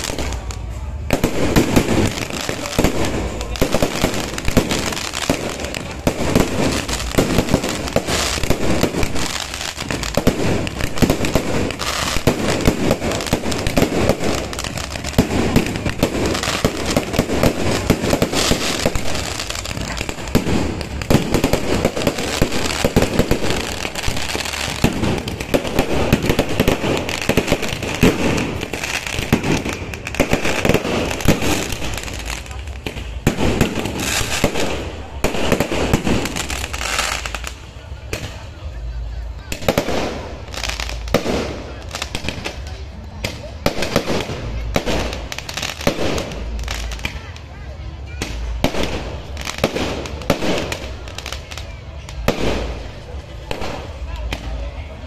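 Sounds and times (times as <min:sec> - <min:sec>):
firecrackers crackling: 0:00.0 - 0:55.0
fireworks bangs: 0:00.0 - 0:55.0.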